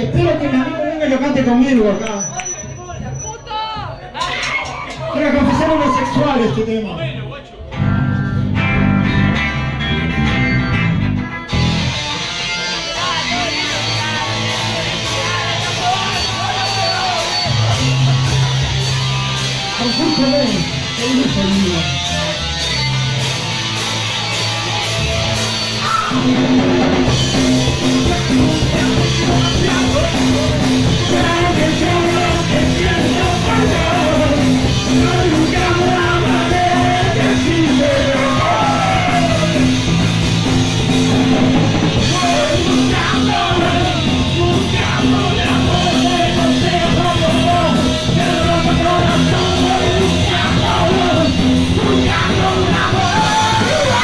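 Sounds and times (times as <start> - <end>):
bass guitar: 0.0 - 3.2, 3.8 - 54.0
singer yelling: 0.0 - 7.0, 12.6 - 18.6, 19.3 - 22.6, 25.6 - 26.5, 27.5 - 54.0
distorted electric guitars: 0.0 - 54.0
drums: 0.0 - 54.0.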